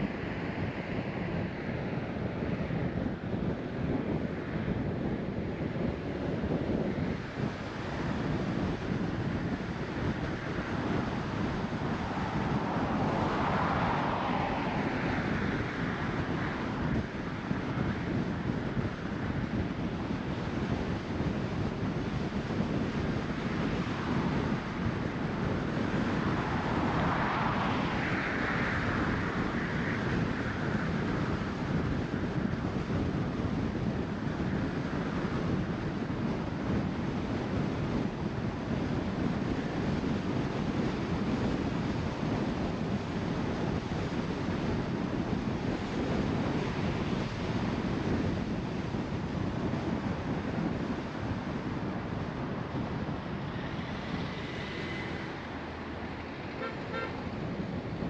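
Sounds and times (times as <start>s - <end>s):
road and tyre noise: 0.0s - 58.0s
wind rush: 0.0s - 58.0s.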